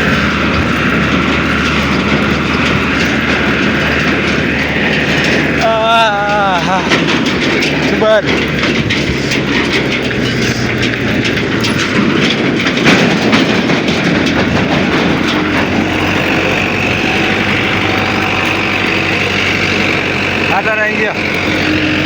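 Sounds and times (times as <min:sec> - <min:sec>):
wind noise: 0:00.0 - 0:20.6
bicycle rattling over uneven road: 0:00.0 - 0:22.0
low engine hum: 0:00.0 - 0:22.0.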